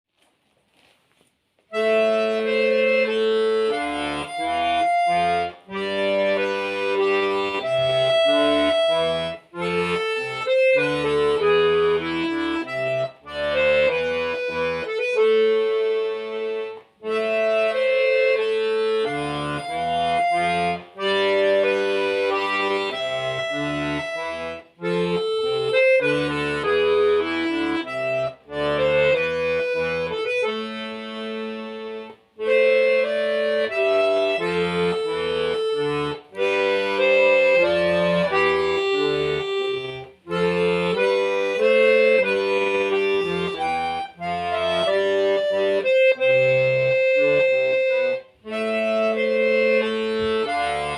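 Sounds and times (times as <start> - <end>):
solo button accordion playing: 1.7 - 50.9.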